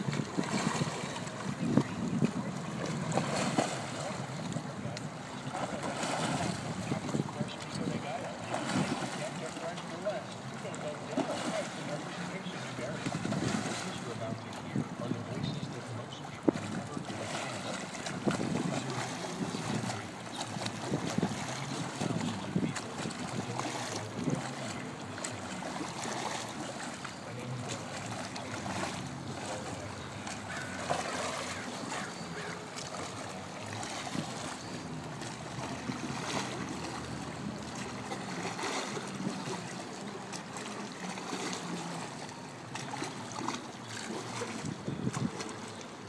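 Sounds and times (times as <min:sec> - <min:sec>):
swimmer splashing water: 0:00.0 - 0:46.0.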